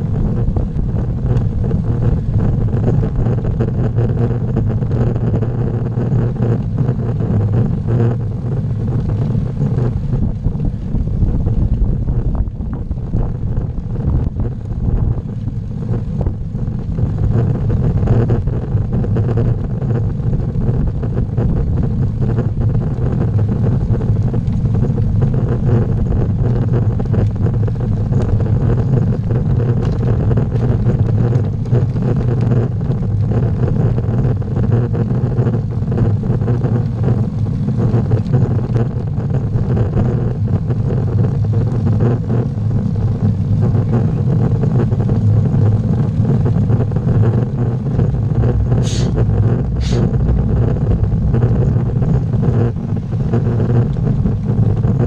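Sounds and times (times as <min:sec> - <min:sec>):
road vibration: 0:00.0 - 0:55.0
wind rumble on microphone: 0:00.0 - 0:55.0.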